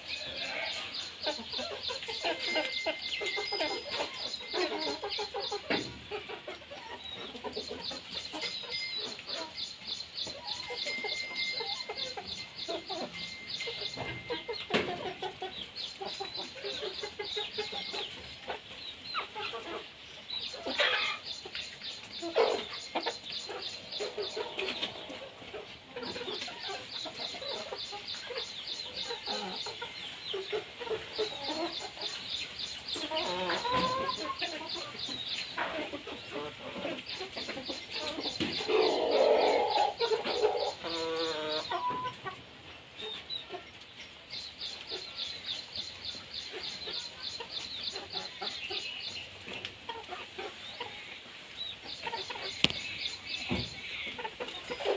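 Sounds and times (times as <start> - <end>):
chickens clucking: 0.0 - 54.9.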